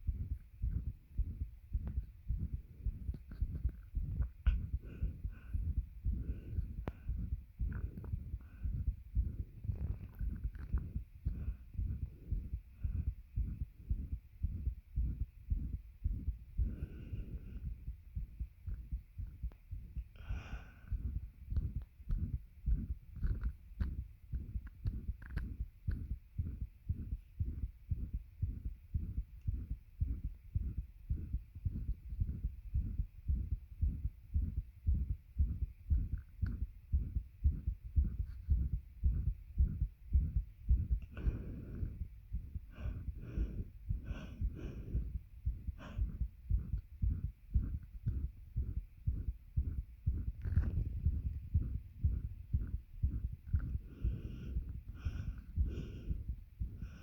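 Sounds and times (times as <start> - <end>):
heartbeat thumps: 0.0 - 57.0
heavy laboured breaths: 0.2 - 19.4, 20.0 - 57.0.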